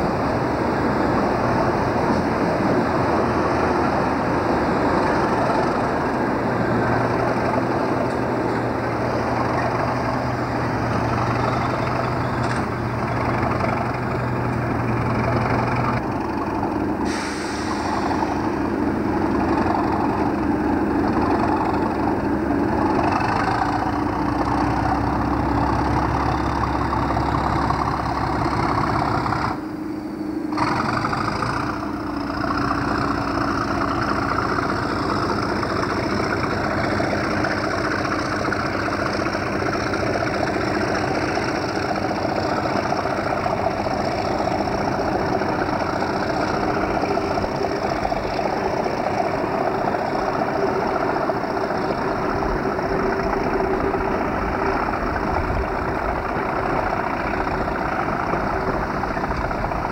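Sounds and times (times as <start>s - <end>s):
diesel locomotive engine throbbing: 0.0s - 59.9s.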